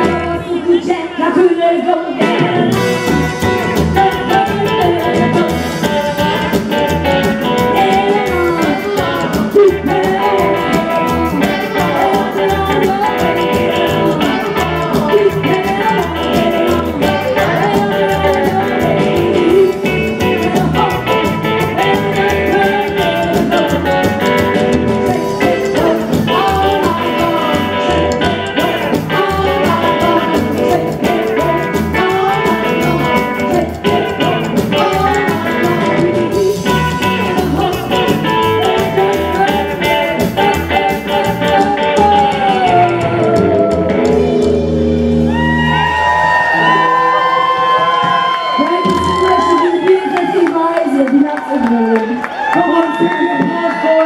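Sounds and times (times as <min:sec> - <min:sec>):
drum kit: 0:00.0 - 0:00.5, 0:02.2 - 0:50.4
woman singing: 0:00.0 - 0:44.2, 0:48.6 - 0:54.0
electric guitar: 0:00.0 - 0:54.0
upright double bass: 0:02.2 - 0:49.7.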